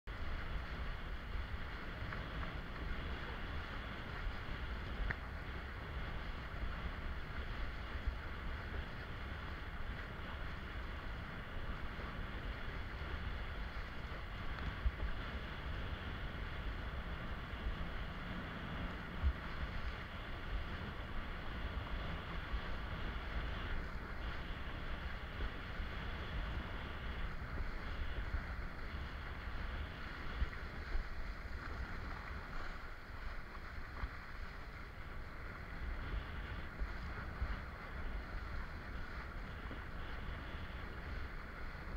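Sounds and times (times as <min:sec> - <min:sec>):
wind rumble on microphone: 0:00.0 - 0:41.9
water rushing under board: 0:00.1 - 0:41.9.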